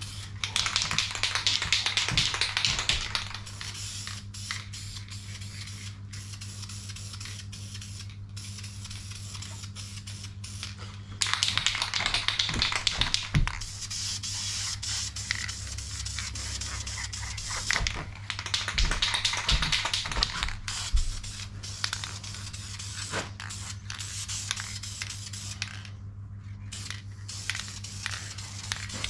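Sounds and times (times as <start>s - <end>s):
aerosol can spraying hiss: 0.0s - 10.7s, 12.2s - 17.8s, 19.0s - 25.6s, 26.8s - 29.0s
steady low hum: 0.0s - 29.0s.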